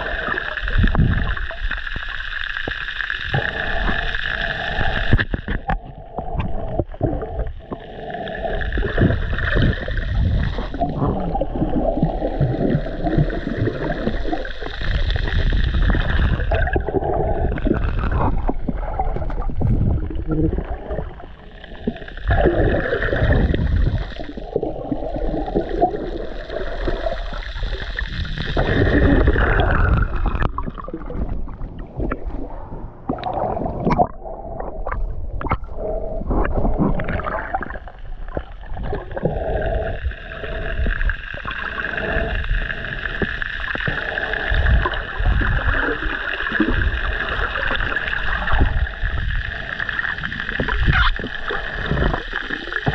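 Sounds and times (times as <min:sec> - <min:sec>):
muffled underwater water rushing: 0:00.0 - 0:52.9.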